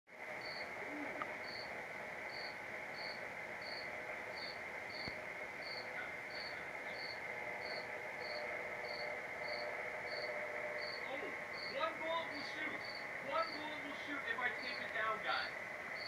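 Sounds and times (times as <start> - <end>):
faint hum: 0.1 - 16.0
steady hiss: 0.1 - 16.0.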